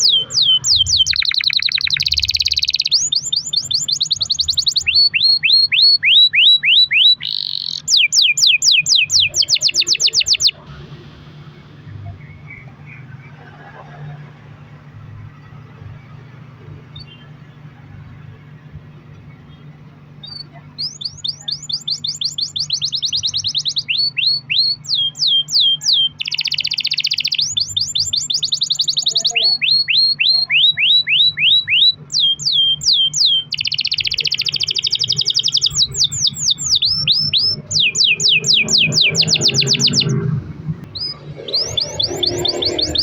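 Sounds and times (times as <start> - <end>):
canary singing: 0.0 - 10.6, 11.9 - 43.0
steady low hum: 0.0 - 30.5, 31.3 - 43.0.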